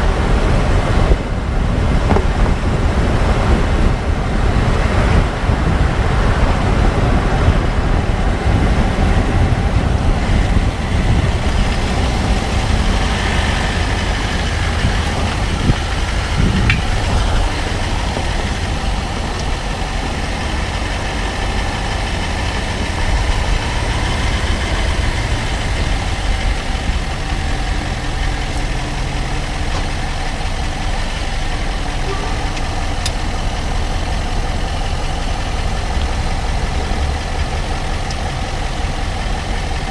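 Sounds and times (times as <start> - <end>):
diesel engine low rumble: 0.0 - 39.9.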